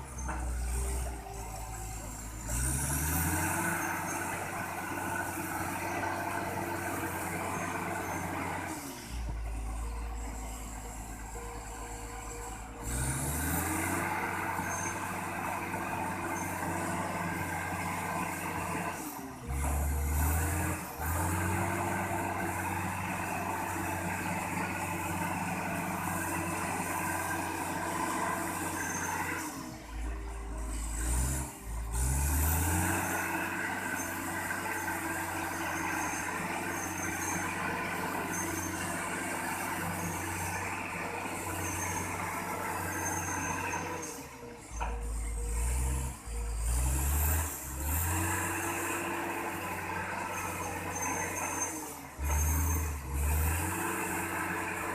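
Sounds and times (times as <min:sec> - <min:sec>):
bulldozer diesel engine revving: 0:00.0 - 0:54.9.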